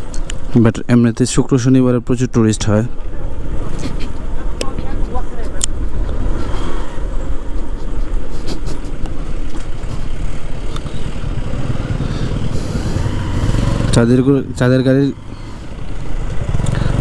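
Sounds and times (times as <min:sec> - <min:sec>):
jeep engines: 0:00.0 - 0:17.0
motorcycle engine running: 0:02.9 - 0:17.0.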